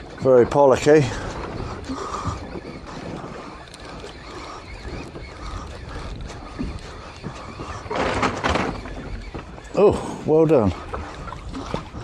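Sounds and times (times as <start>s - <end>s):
water noise around boat: 0.0s - 12.0s
wind: 0.0s - 12.0s.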